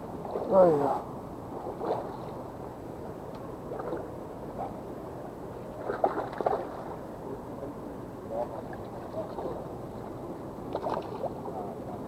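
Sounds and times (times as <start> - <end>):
water: 0.0 - 12.0
wind: 0.0 - 12.0.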